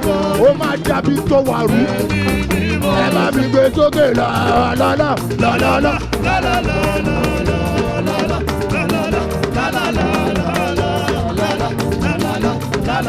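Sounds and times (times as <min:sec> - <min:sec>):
gospel praise music: 0:00.0 - 0:13.0.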